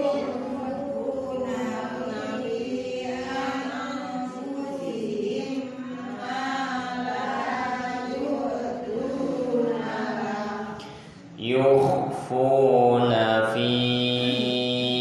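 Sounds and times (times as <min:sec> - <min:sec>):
person reciting melodically: 0:00.0 - 0:15.0.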